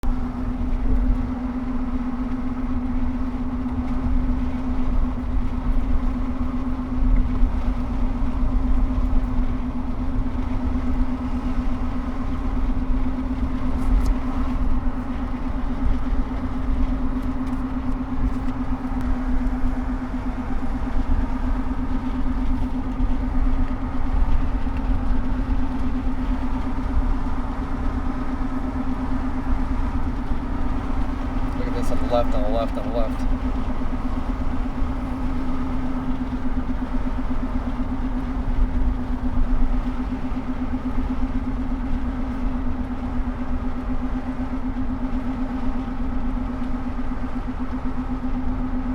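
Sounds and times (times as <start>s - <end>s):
car road and engine rumble: 0.0s - 48.9s.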